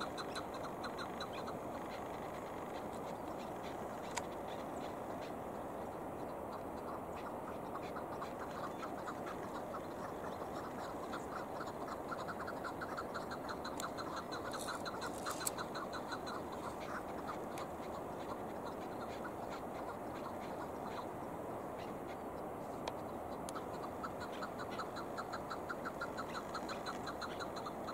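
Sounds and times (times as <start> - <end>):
background noise: 0.0 - 27.9
partridge clucking calls: 0.0 - 27.9.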